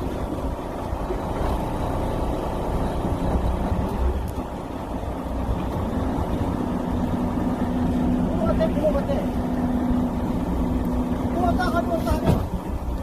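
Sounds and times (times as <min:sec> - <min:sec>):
boat engine running low hum: 0:00.0 - 0:13.0.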